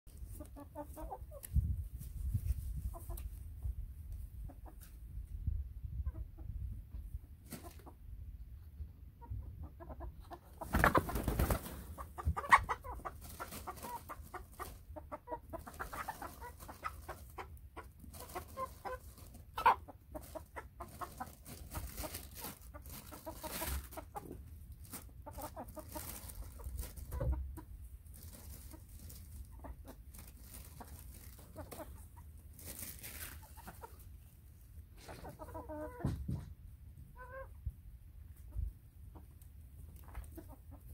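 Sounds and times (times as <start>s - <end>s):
hens clucking: 0.1s - 1.8s, 2.8s - 5.0s, 5.9s - 40.9s.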